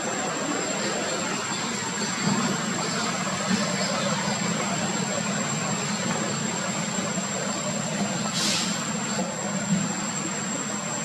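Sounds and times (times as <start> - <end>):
low rumble with hiss: 0.0 - 11.0.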